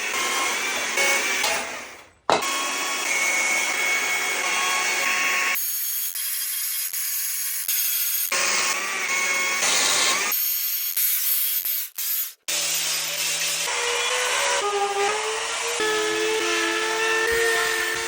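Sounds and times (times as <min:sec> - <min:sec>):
power carving tool cutting wood: 0:00.0 - 0:01.5, 0:02.3 - 0:18.0.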